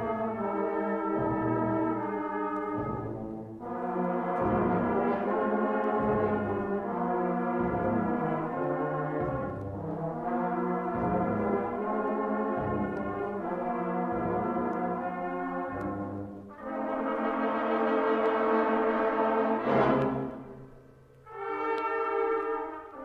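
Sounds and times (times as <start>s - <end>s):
brass band playing chords: 0.0s - 20.5s.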